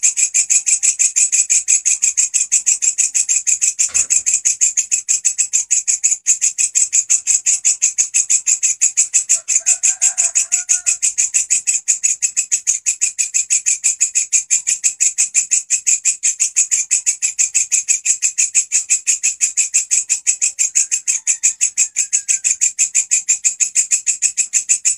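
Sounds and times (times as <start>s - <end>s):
bush cricket singing: 0.0s - 24.9s.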